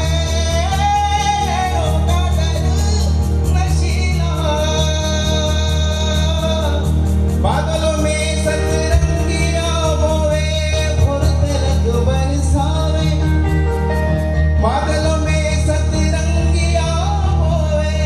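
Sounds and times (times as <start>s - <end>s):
backing music with steady beat: 0.0s - 18.0s
man singing into microphone: 0.0s - 18.0s.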